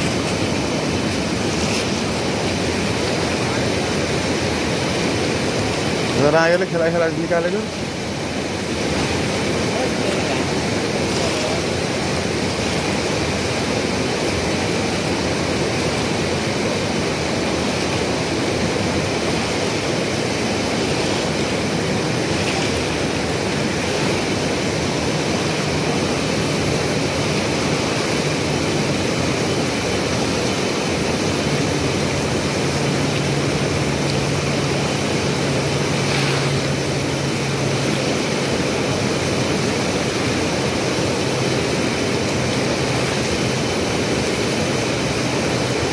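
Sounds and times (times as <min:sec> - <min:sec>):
river rushing: 0:00.0 - 0:45.9.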